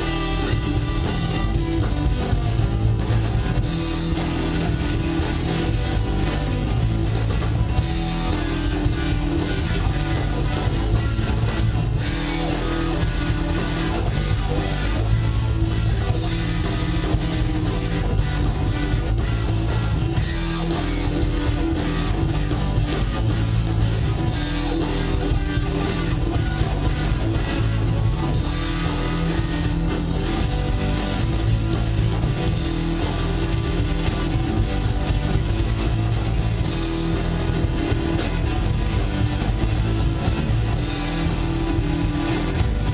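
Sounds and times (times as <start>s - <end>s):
drum kit: 0.0s - 42.9s
electric guitars: 0.0s - 42.9s.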